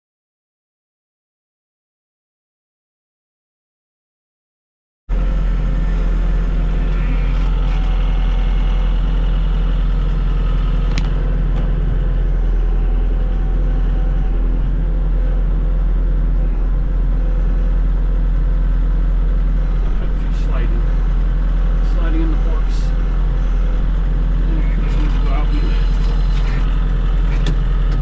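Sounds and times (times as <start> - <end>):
tractor diesel engine running: 5.1 - 28.0.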